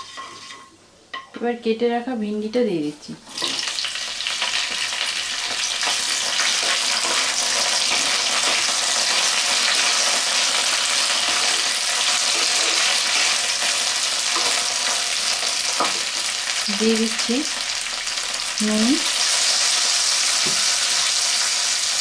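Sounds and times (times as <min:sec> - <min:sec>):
okra sizzling in hot oil: 0:00.0 - 0:00.7, 0:03.2 - 0:22.0.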